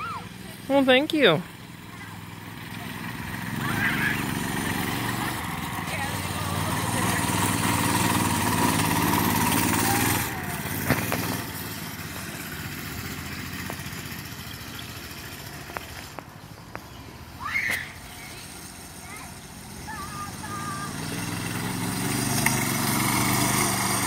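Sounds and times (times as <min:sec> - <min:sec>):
go-kart engine running: 0:00.0 - 0:24.0.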